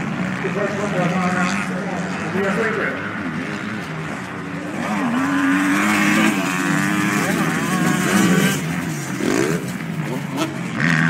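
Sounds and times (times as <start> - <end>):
motocross bikes revving: 0.0 - 11.0.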